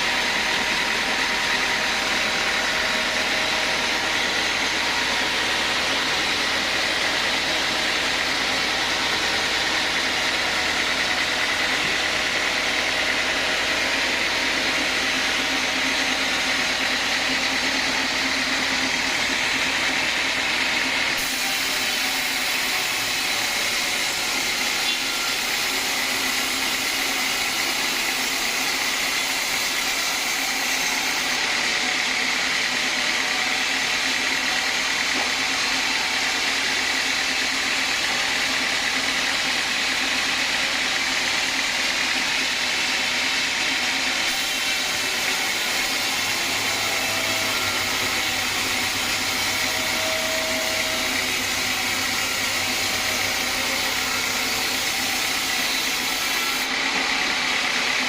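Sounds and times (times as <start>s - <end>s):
band saw running: 0.0s - 58.0s.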